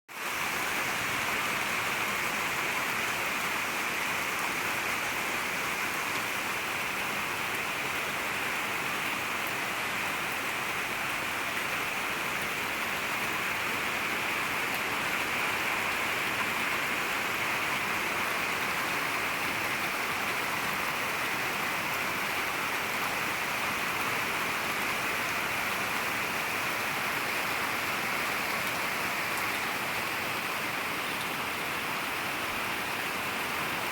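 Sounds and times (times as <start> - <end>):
heavy rain hissing: 0.2 - 33.9.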